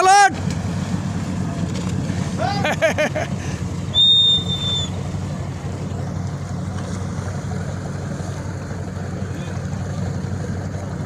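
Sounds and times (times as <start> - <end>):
motorboat engine droning: 0.0 - 11.0
water rushing: 0.0 - 11.0.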